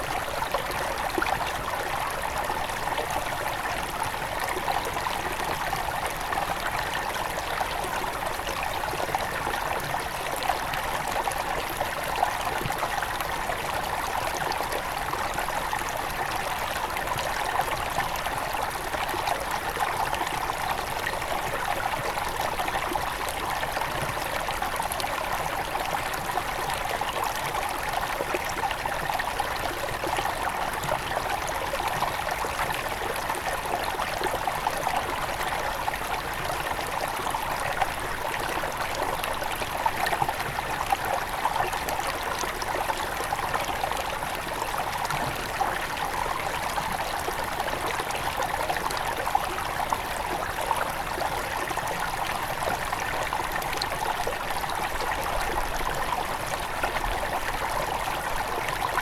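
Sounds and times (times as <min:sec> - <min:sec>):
river trickling over stones: 0:00.0 - 0:59.0.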